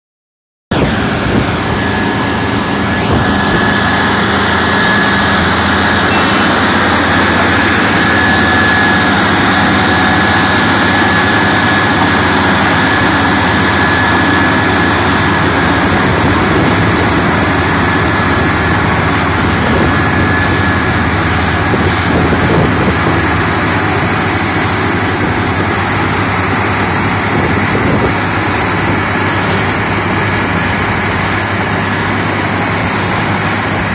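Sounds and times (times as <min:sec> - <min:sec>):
milling machine diesel engine din: 0:00.7 - 0:33.9
thin high whine: 0:00.7 - 0:33.9.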